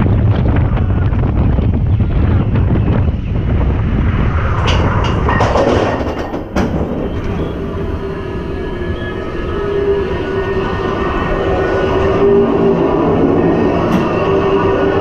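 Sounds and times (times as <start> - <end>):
roller coaster lift rumble: 0.0 - 15.0
steady mechanical hum: 0.0 - 15.0.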